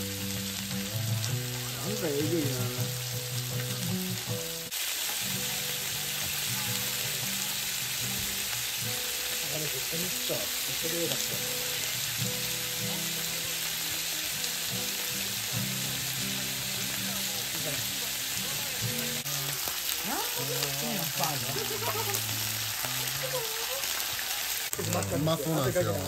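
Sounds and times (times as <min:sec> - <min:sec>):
chicken sizzling on hot plate: 0:00.0 - 0:26.0.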